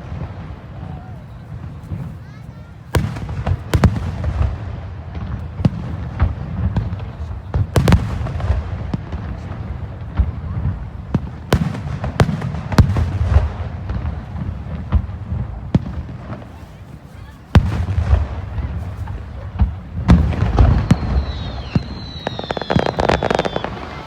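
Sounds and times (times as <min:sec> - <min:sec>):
fireworks cracks and booms: 0:00.0 - 0:24.0
low rumble of fireworks: 0:00.0 - 0:24.0.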